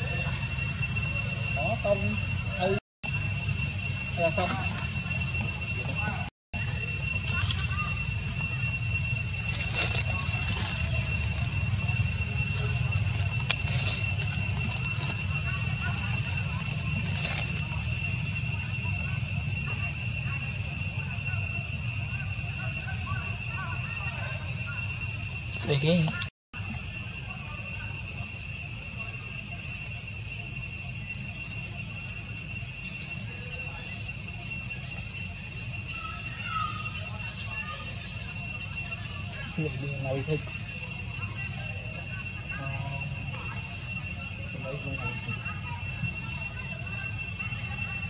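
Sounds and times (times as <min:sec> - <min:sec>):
high insect drone: 0:00.0 - 0:48.0.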